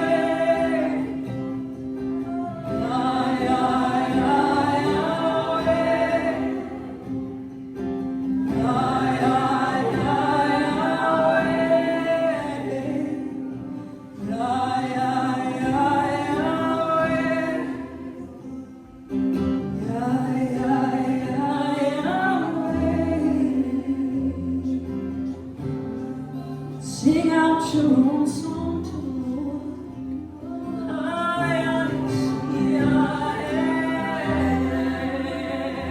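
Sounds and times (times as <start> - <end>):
held guitar chords: 0.0 - 35.9
voices singing: 0.0 - 35.9.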